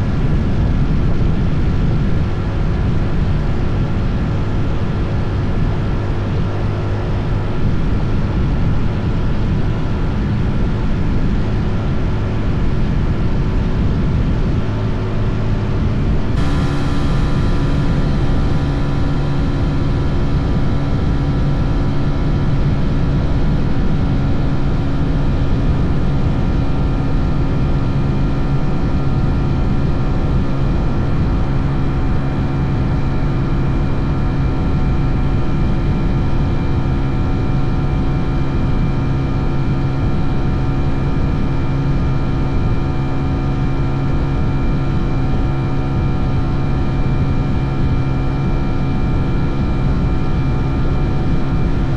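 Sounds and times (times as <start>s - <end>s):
motorcycle engine drone: 0.0s - 51.9s
wind and road noise: 0.0s - 51.9s.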